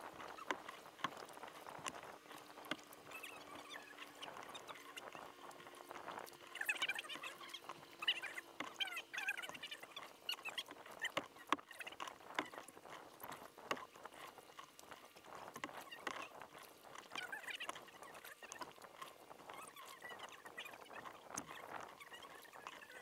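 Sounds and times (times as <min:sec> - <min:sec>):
paddle dipping and splashing: 0:00.0 - 0:23.0
water dripping from paddle: 0:00.0 - 0:23.0.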